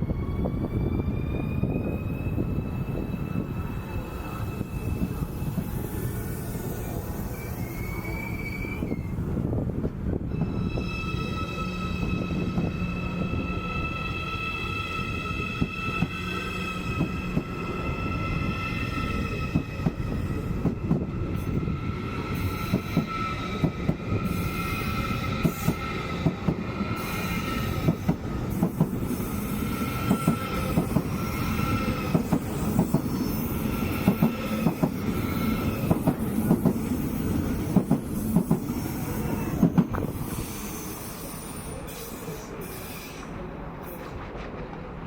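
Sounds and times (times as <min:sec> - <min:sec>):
train wheels squealing: 0:00.0 - 0:09.4, 0:10.2 - 0:44.2.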